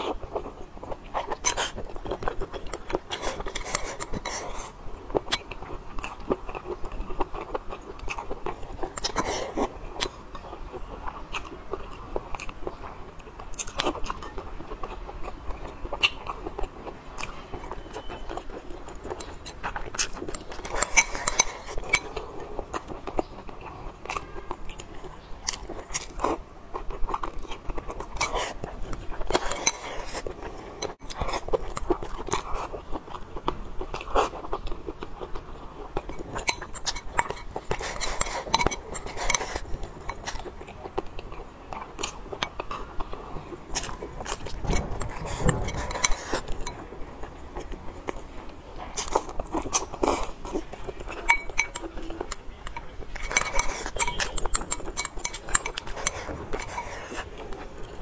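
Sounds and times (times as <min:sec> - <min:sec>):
close chewing and biting: 0:00.0 - 0:58.0.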